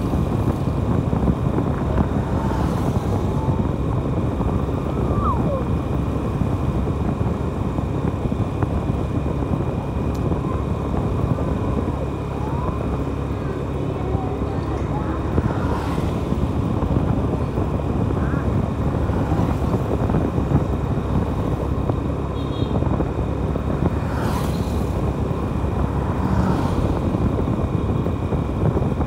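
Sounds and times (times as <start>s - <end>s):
motorcycle engine drone: 0.0s - 29.0s
rushing air: 0.0s - 29.0s.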